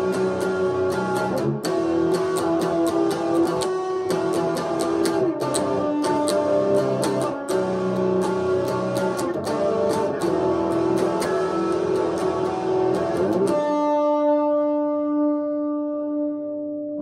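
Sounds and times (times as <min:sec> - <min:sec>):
guitar strumming: 0:00.0 - 0:17.0.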